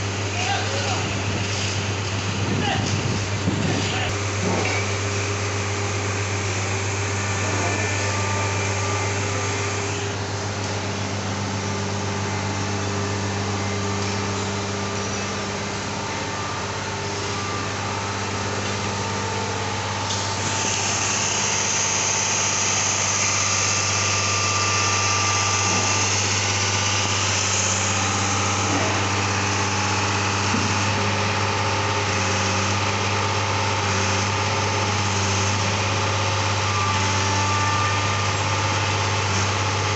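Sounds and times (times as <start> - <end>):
machine engine humming: 0.0 - 39.9.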